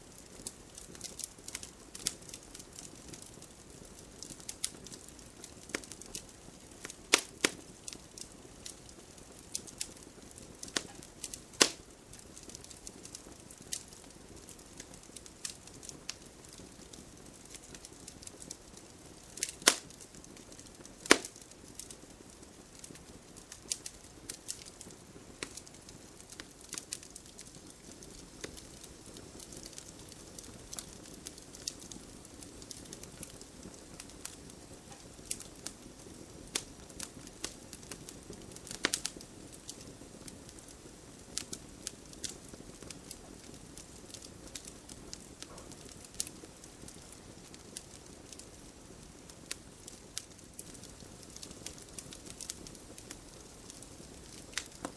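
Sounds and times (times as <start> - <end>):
campfire crackling and popping: 0.0 - 54.9
hiss of burning flames: 0.0 - 54.9.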